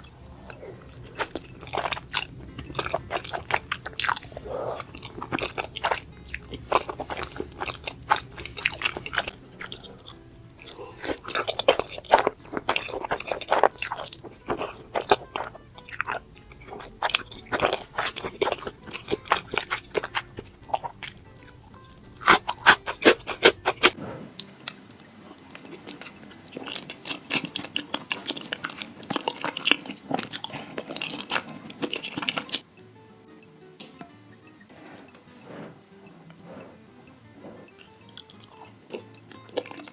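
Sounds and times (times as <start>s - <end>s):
chewing with wet mouth clicks: 0.0s - 39.9s.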